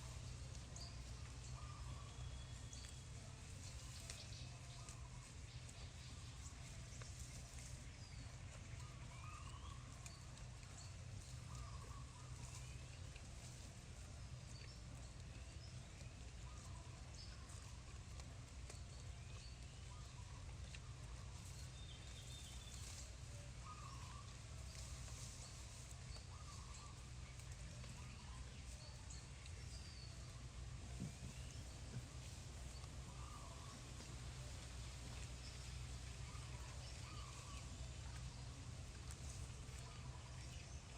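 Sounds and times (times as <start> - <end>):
small birds chirping: 0.0 - 40.9
steady low rumble: 0.0 - 40.9.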